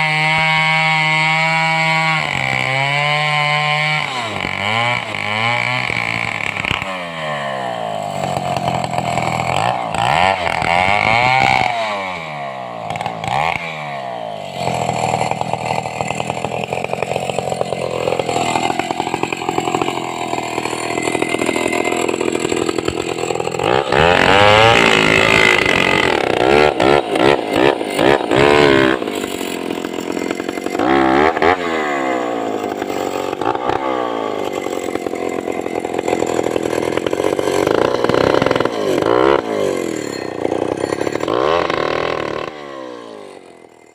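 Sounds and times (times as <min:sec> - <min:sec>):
chainsaw cutting through log: 0:00.0 - 0:43.9.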